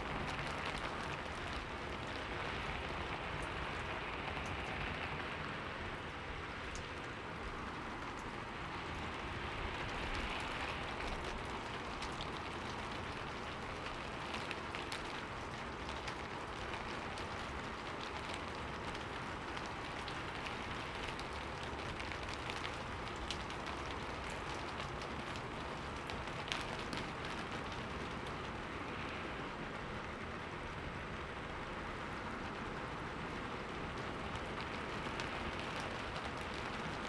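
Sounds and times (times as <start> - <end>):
rain on a window pane: 0.0 - 37.0.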